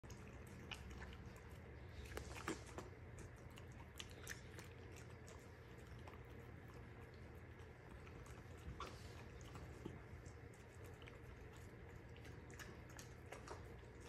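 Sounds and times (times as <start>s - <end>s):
dog crunching vegetables: 0.0s - 14.0s.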